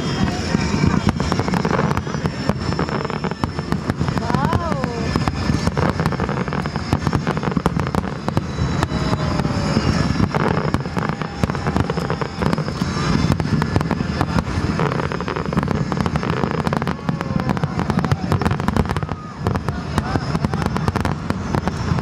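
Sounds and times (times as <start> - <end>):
fireworks booming and crackling: 0.0 - 22.0.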